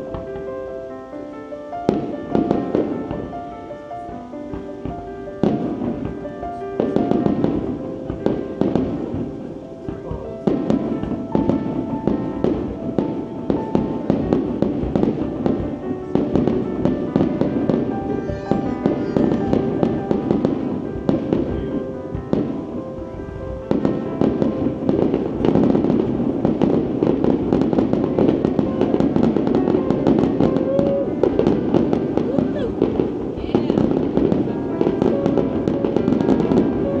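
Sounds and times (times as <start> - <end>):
fireworks bangs and crackles: 0.0 - 1.1, 1.7 - 37.0
music playing: 0.0 - 37.0.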